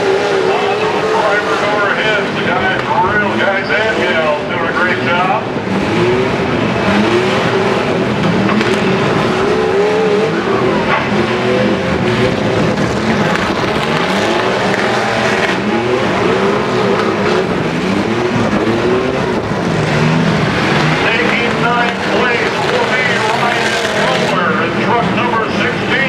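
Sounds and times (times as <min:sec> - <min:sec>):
truck engines revving hard: 0:00.0 - 0:26.0.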